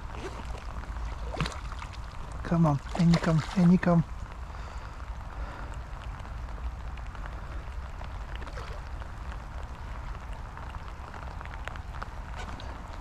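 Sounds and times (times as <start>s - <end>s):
raindrops ticking: 0.0s - 13.0s
steady rain: 0.0s - 13.0s
wind rumble on microphone: 0.0s - 13.0s.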